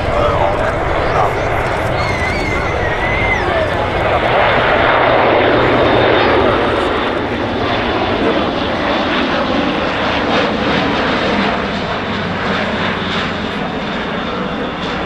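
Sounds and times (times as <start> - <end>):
turboprop aircraft drone: 0.0 - 15.0.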